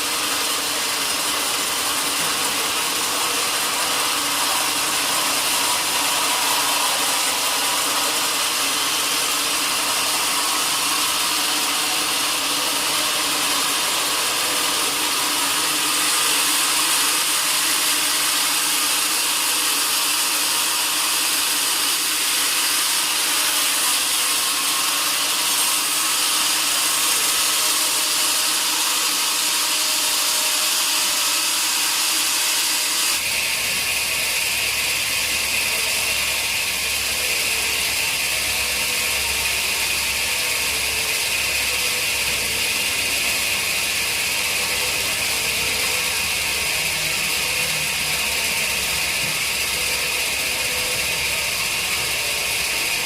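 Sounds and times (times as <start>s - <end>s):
sawmill saw hissing: 0.0s - 53.0s.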